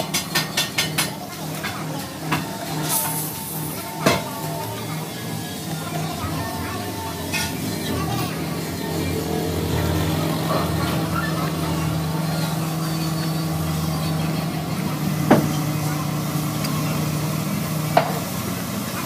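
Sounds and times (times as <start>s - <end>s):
engine humming: 1.0s - 19.0s.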